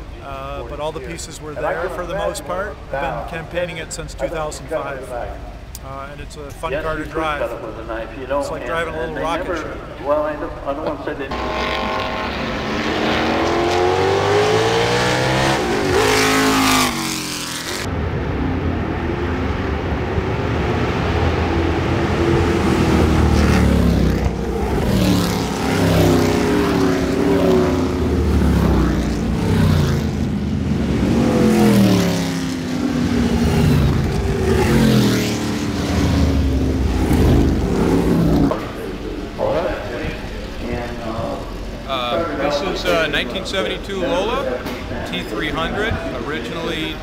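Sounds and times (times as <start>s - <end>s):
race car engines: 0.0s - 47.0s.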